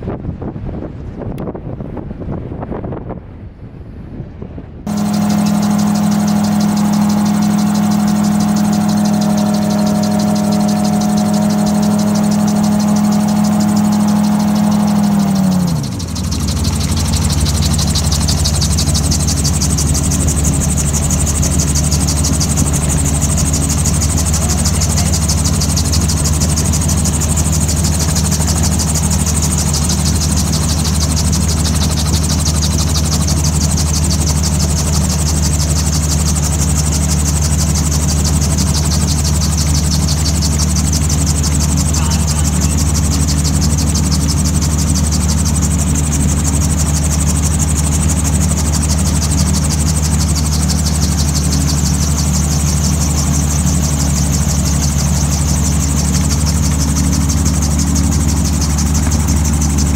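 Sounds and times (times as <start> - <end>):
aircraft engine droning: 0.0 - 59.9
rotor and airflow noise: 0.0 - 59.9.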